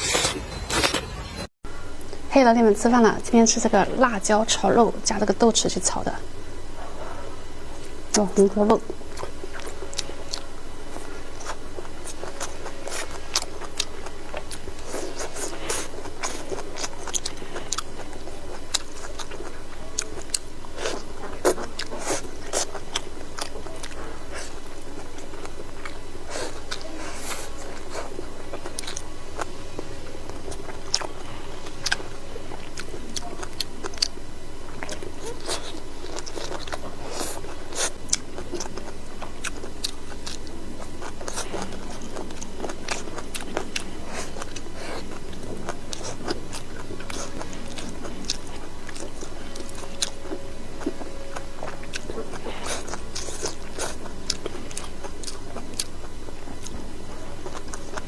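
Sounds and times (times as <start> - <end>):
low background hum: 0.0 - 58.0
person chewing and crunching food: 3.0 - 58.0.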